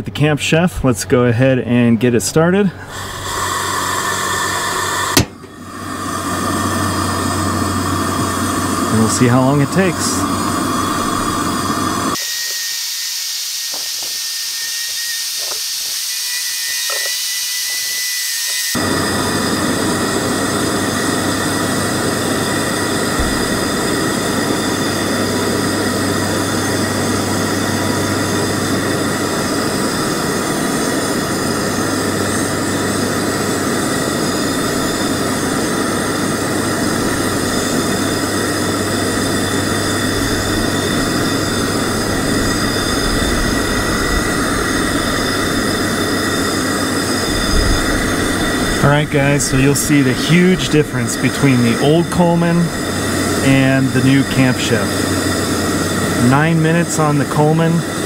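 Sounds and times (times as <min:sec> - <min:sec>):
gas stove burner roaring: 0:00.0 - 0:58.0.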